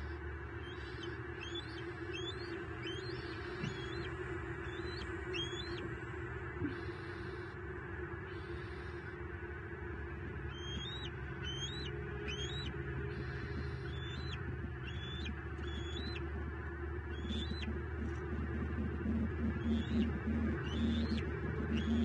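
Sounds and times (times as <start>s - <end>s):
bird calling: 0.0s - 9.2s, 10.2s - 22.0s
steady low rumble: 0.0s - 22.0s.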